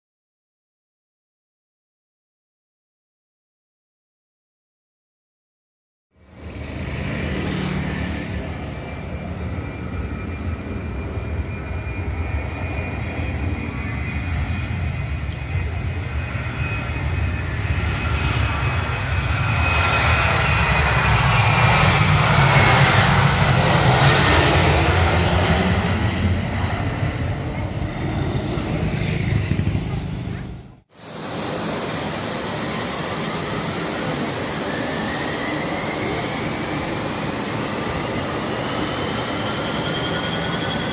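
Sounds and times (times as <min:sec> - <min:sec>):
airliner engines rumbling and whining: 0:06.2 - 0:40.9.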